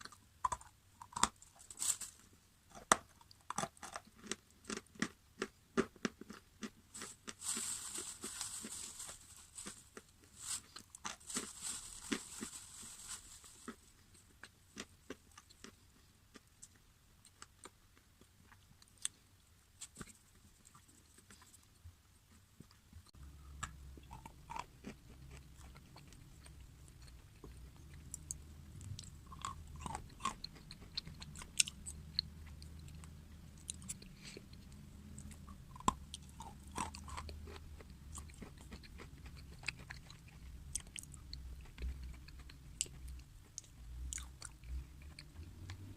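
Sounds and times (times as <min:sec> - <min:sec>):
crunchy food being chewed: 0:00.0 - 0:02.0, 0:02.7 - 0:19.2, 0:19.8 - 0:45.9
low steady hum: 0:00.0 - 0:45.9.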